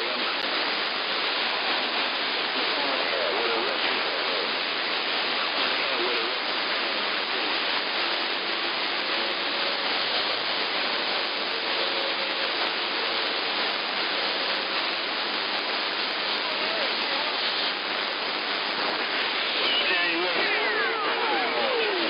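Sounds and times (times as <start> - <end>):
faint wavering radio tones: 0.0 - 22.0
radio receiver hiss: 0.0 - 22.0.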